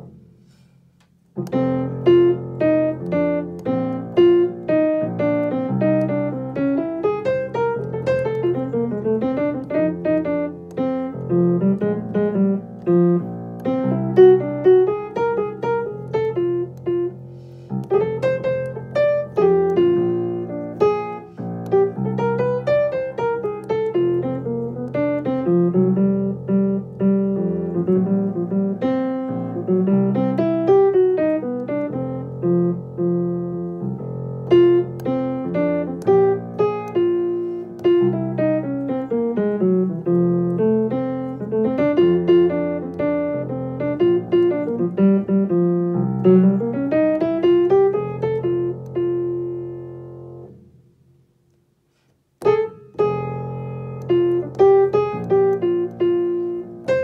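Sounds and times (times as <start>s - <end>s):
piano melody over held low notes: 0.0s - 0.6s, 1.2s - 51.4s, 52.4s - 57.0s.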